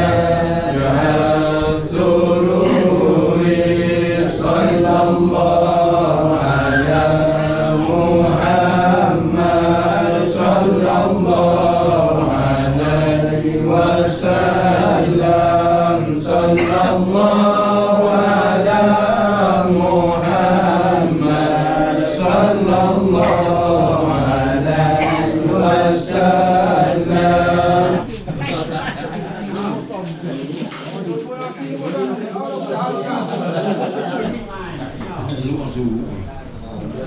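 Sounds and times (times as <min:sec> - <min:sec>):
person chanting: 0:00.0 - 0:30.8.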